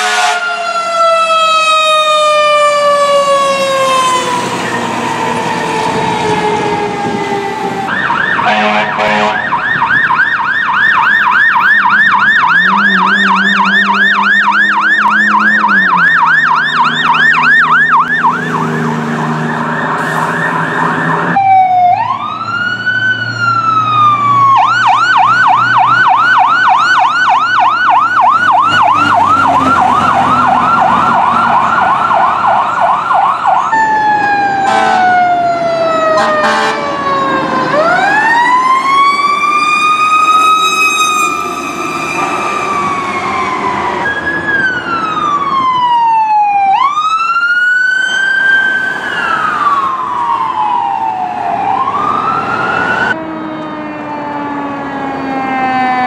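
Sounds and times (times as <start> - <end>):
fire truck sirens yelp and wail: 0.0 - 56.0
truck engines running: 0.8 - 56.0.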